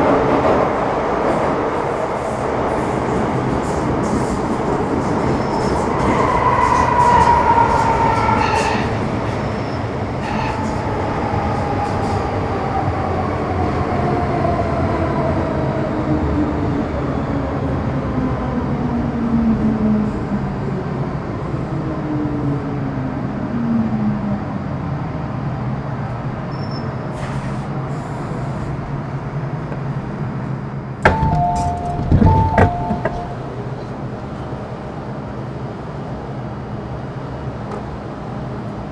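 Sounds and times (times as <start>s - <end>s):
train wheels rumbling on rails: 0.0s - 20.8s, 26.5s - 38.9s.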